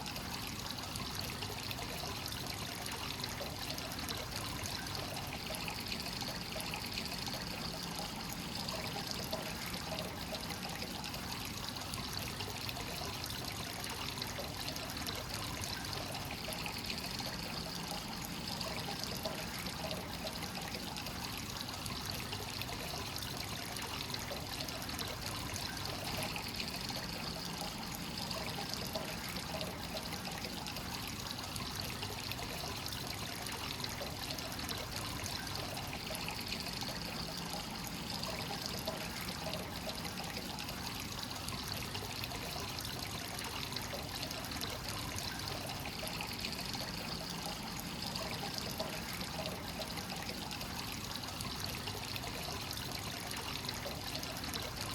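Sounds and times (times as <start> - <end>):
water pouring into rock bath: 0.0 - 54.9.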